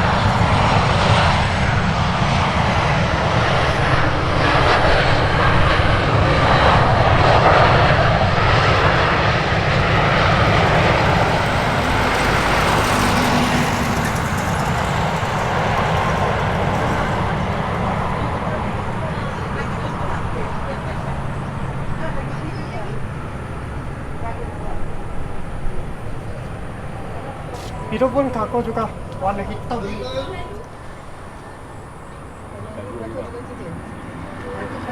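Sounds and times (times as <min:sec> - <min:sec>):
airliner engines rushing: 0:00.0 - 0:34.9.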